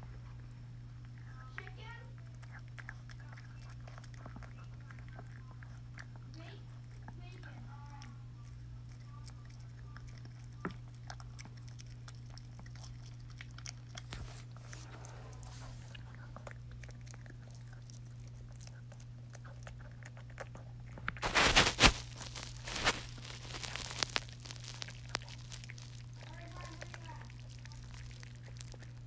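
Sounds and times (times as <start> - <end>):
dog chewing a hard treat: 0.1 - 29.0.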